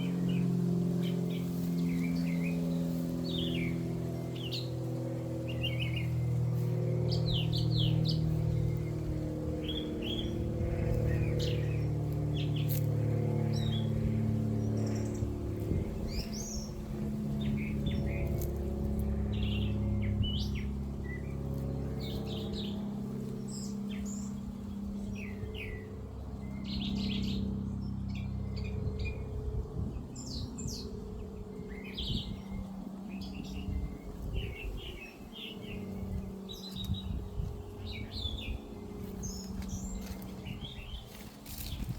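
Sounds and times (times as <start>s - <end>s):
low steady hum: 0.0s - 41.9s
songbird singing: 0.0s - 41.9s.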